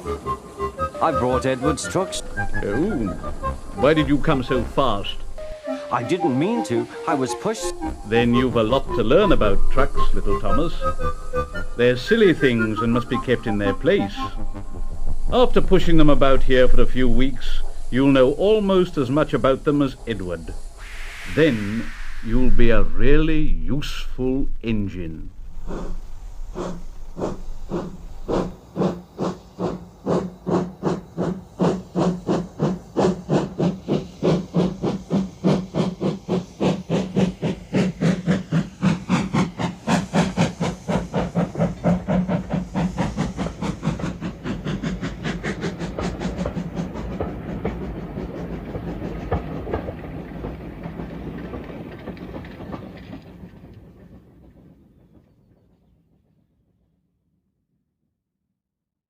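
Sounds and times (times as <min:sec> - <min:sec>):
steam locomotive chuffing: 0:00.0 - 0:55.9.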